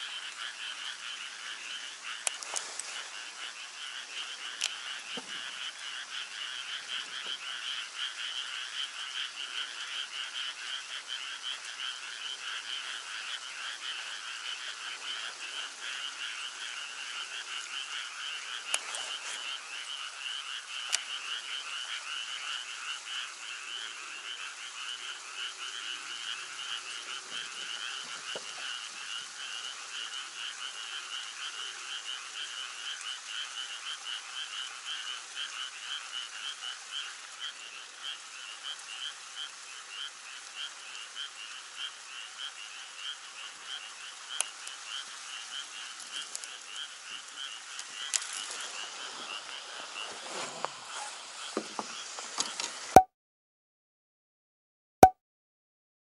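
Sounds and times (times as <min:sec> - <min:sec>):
frogs croaking: 0:00.0 - 0:52.5.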